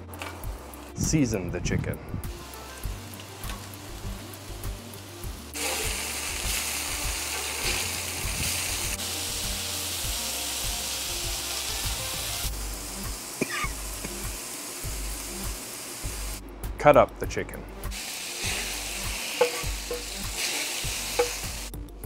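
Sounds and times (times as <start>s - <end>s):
background music with deep bass: 0.0s - 22.0s
meat sizzling on a griddle: 2.3s - 16.4s, 17.9s - 21.7s.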